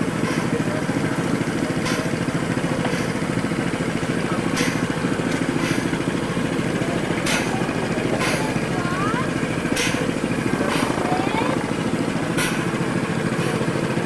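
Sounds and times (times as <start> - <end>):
small engine running: 1.9 - 14.0.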